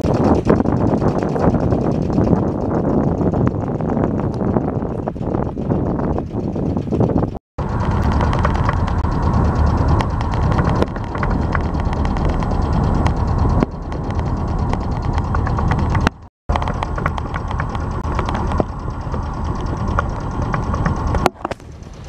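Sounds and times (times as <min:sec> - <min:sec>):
rapid ticking: 0:00.0 - 0:22.0
wind buffeting microphone: 0:00.0 - 0:22.0.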